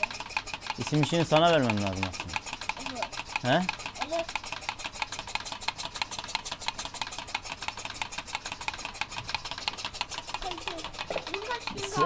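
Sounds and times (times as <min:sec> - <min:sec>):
fast even clicking: 0:00.0 - 0:12.0.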